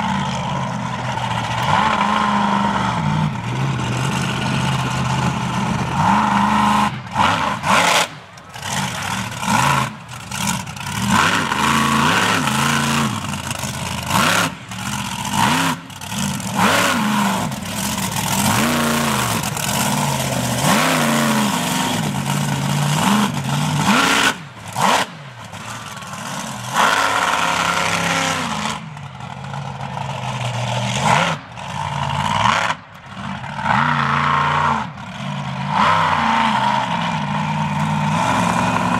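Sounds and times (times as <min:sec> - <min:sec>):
monster truck engines revving: 0:00.0 - 0:38.9.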